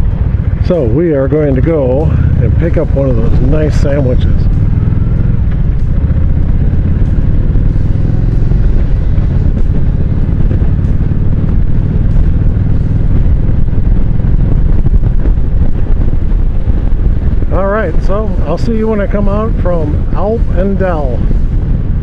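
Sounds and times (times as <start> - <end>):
motorcycle engine rumbling: 0.0 - 22.0
wind buffeting on microphone: 0.0 - 22.0.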